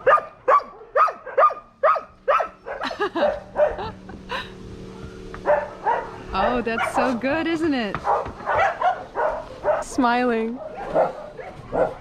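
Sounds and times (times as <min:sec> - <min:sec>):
dogs barking and yipping: 0:00.0 - 0:04.0, 0:05.4 - 0:12.0.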